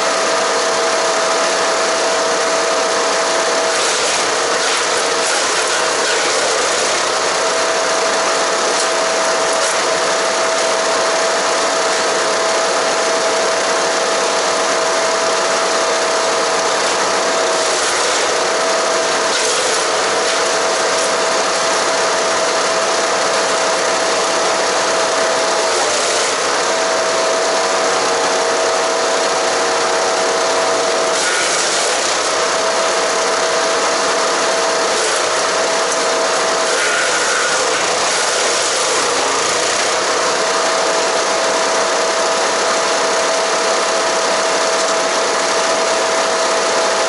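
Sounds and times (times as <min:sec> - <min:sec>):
wood chipper shredding branches: 0:00.0 - 0:47.0.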